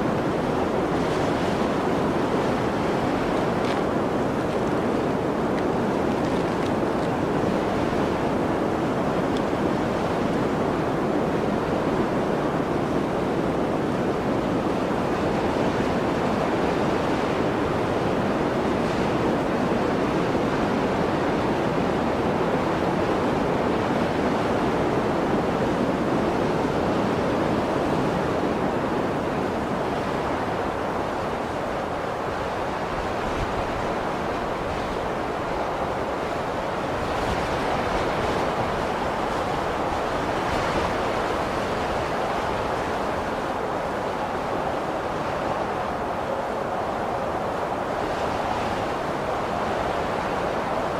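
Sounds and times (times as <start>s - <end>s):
blizzard wind rushing: 0.0s - 50.9s.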